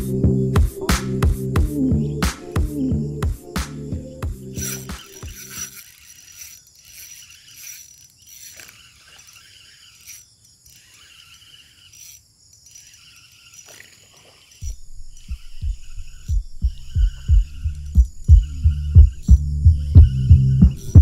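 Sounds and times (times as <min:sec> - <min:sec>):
fishing reel whirring: 0:00.0 - 0:21.0
high-pitched chirring: 0:00.0 - 0:21.0.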